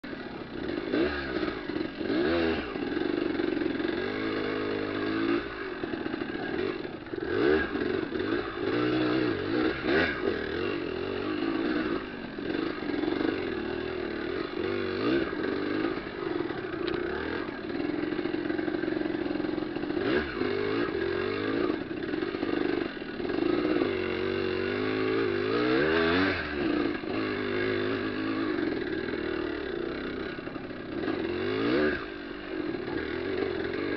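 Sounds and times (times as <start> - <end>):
off-road motorcycle engine revving: 0.0 - 33.9.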